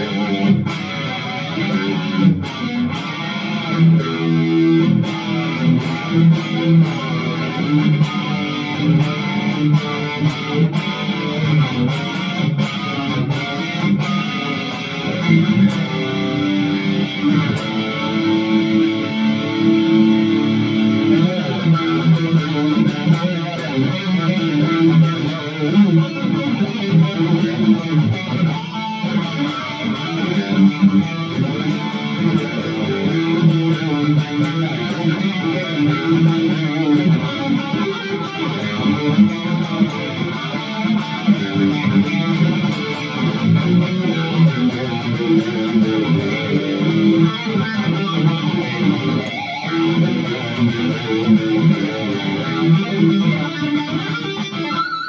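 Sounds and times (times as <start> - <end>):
electric guitar rhythm playing: 0.0 - 55.0.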